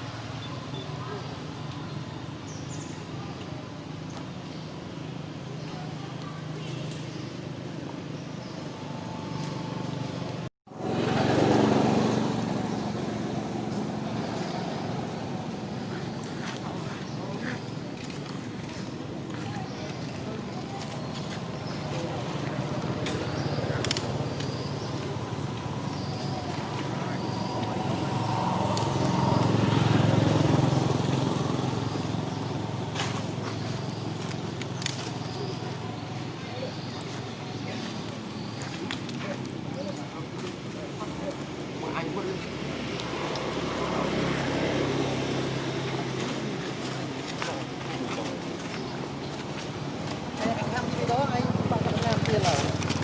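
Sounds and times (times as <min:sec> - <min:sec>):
vehicle engine passing by: 0:08.6 - 0:53.0.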